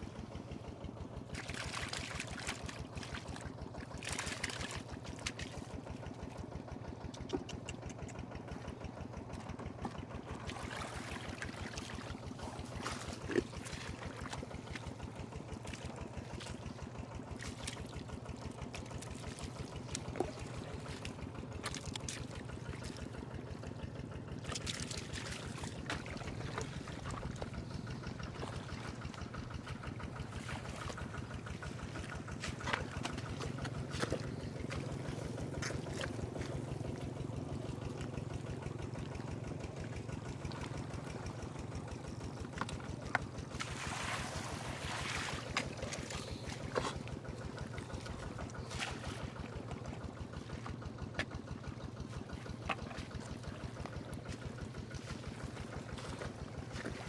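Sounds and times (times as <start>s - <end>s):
small engine running: 0.0s - 57.0s
hands squelching through mud: 0.1s - 57.0s.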